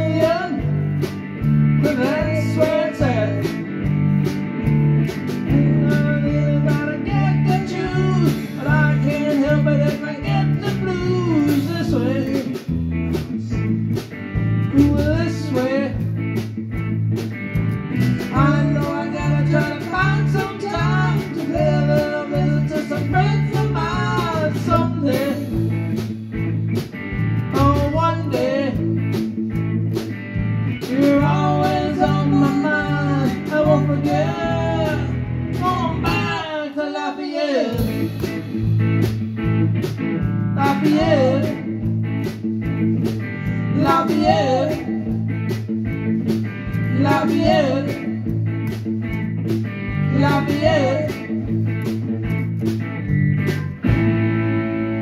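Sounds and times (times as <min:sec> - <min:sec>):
electric bass line: 0:00.0 - 0:36.5, 0:37.8 - 0:55.0
guitar lead bending notes: 0:00.0 - 0:36.5, 0:37.8 - 0:55.0.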